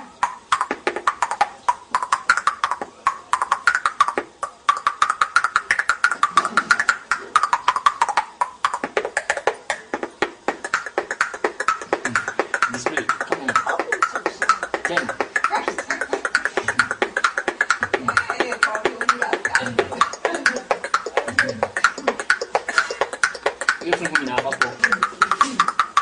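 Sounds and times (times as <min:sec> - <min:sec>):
teeth clicking beatbox: 0:00.0 - 0:26.0.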